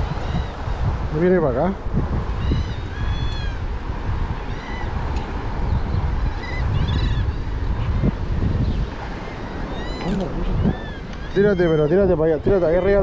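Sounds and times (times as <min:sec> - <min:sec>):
seabirds calling: 0:00.0 - 0:01.7, 0:02.3 - 0:13.0
wind buffeting microphone: 0:00.0 - 0:13.0.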